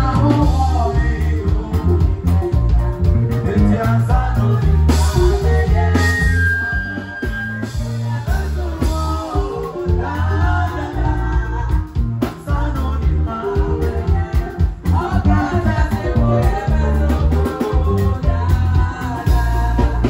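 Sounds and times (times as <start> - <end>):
bass line: 0.0 - 20.0
electric guitar: 0.0 - 20.0
woman singing: 0.0 - 20.0.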